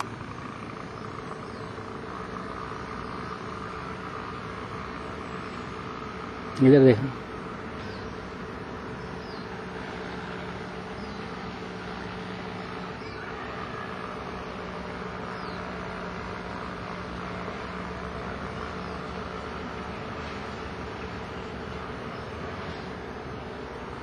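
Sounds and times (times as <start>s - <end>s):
constant low hum: 0.0s - 24.0s.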